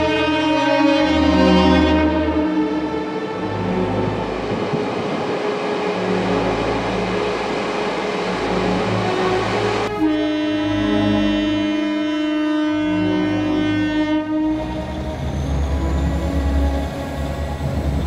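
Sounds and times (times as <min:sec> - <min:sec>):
train horn blast: 0:00.0 - 0:16.9
train rolling: 0:00.0 - 0:18.0.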